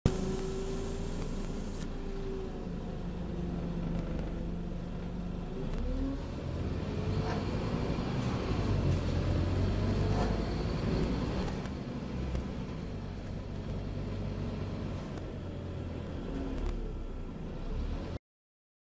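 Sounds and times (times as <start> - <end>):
bus diesel engine: 0.0 - 18.2.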